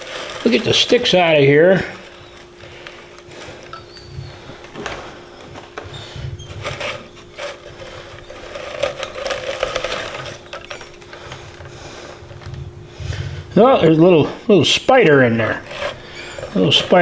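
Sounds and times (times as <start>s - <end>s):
dry twigs rustling and scraping: 0.0s - 17.0s.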